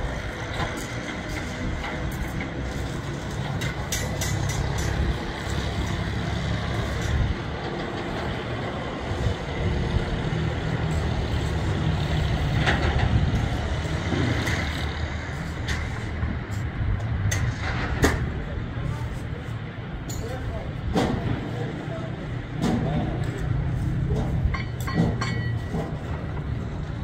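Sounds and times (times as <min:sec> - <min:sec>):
steady low rumble: 0:04.6 - 0:27.0.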